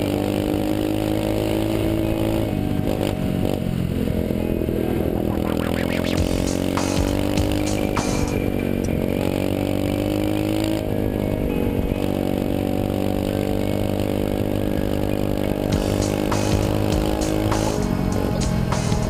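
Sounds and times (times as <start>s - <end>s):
pit bike engine running: 0.0s - 19.0s.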